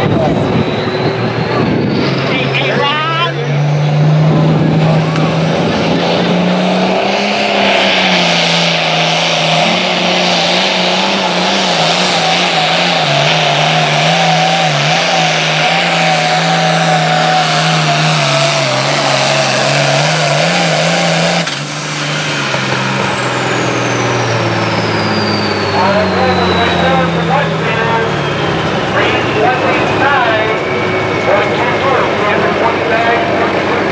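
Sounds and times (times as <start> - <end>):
high whine: 0.0 - 33.9
tractor diesel engine at full load: 0.0 - 33.9.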